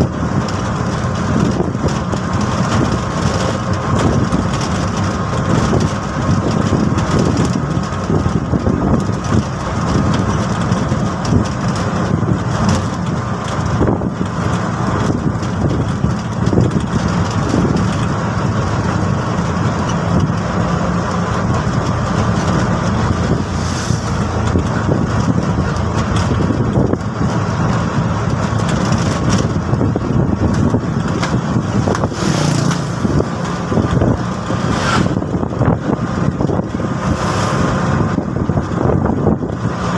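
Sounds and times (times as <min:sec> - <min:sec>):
road noise: 0:00.0 - 0:39.9
three-wheeler engine running: 0:00.0 - 0:39.9.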